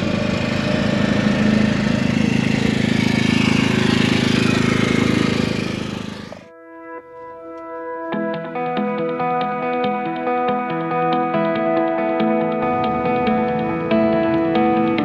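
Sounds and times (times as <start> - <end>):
generator engine running: 0.0 - 6.5, 8.4 - 15.0.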